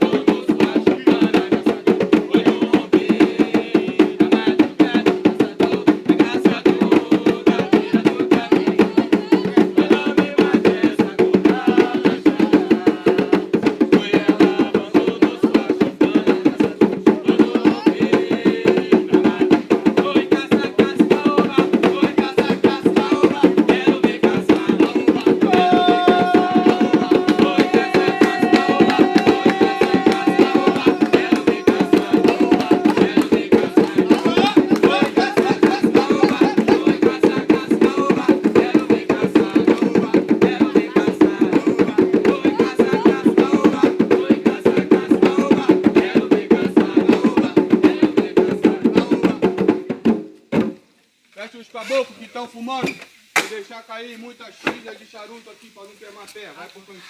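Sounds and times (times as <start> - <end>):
voices singing religious chant: 0.0 - 49.7
hand drums fast rhythm: 0.0 - 50.8.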